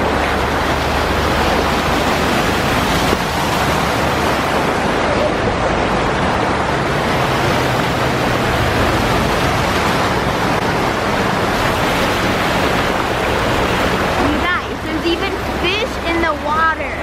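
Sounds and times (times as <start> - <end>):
car driving through floodwater: 0.0 - 17.0.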